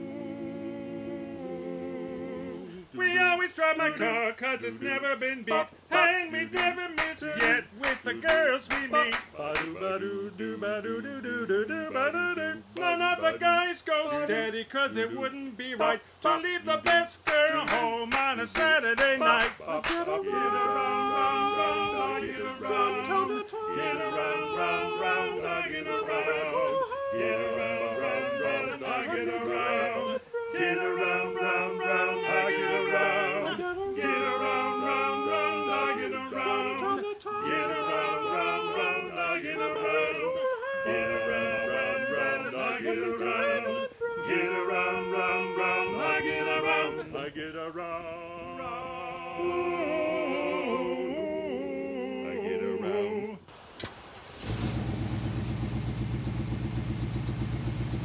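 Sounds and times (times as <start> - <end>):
men singing in harmony: 0.0 - 53.5.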